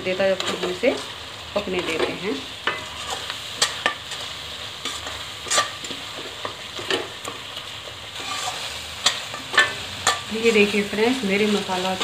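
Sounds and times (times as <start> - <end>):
masala sizzling in a pan: 0.0 - 12.0
metal spoon scraping a pan: 0.3 - 12.0.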